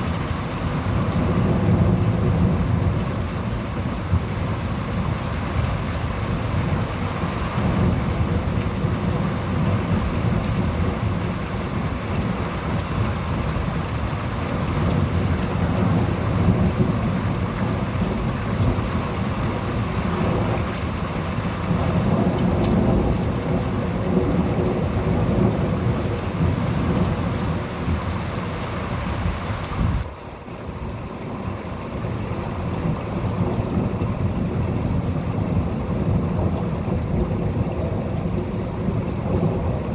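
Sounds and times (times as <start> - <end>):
heavy rain: 0.0 - 39.9
low rumbling thunder: 0.7 - 14.0, 14.6 - 28.2, 32.8 - 39.9.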